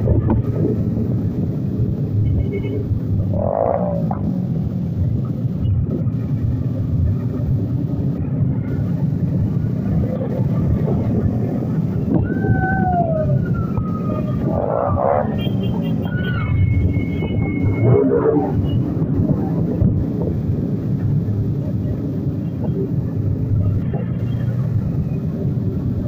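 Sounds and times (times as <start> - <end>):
wind rumble: 0.0 - 26.0.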